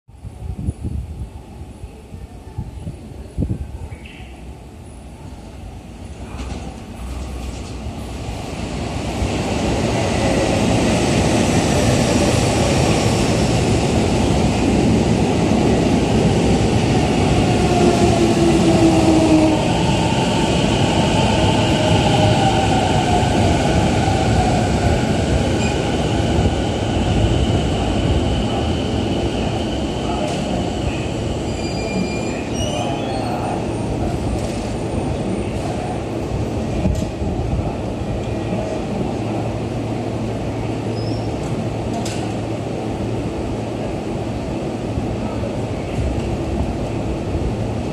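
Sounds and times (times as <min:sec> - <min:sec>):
subway train passing: 0:00.1 - 0:47.9.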